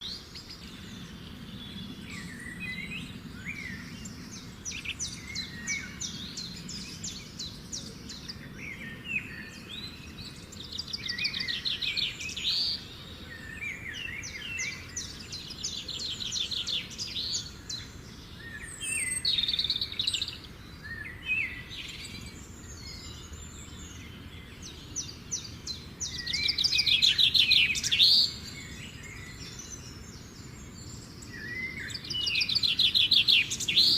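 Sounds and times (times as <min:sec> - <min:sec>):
songbirds trilling: 0:00.0 - 0:33.9.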